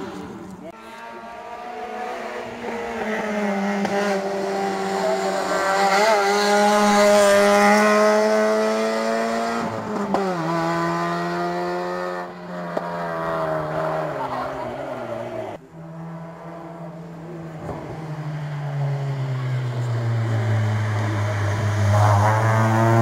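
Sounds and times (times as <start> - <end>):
rally car engine pulling hard: 1.0 - 23.0.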